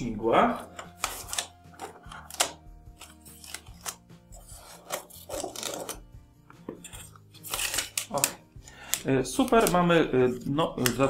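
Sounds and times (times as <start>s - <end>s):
faint background music: 0.0s - 11.0s
scissors cutting plastic: 0.8s - 6.0s, 6.8s - 11.0s.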